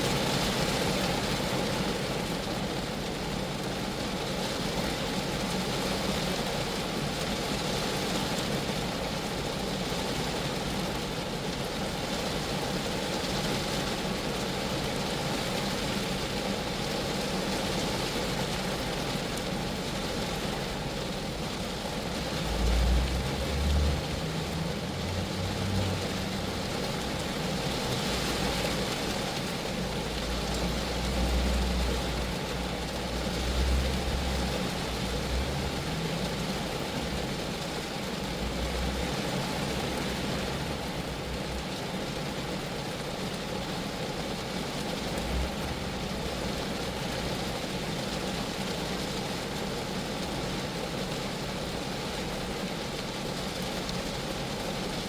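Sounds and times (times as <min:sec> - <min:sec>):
rain falling on a car: 0:00.0 - 0:55.0.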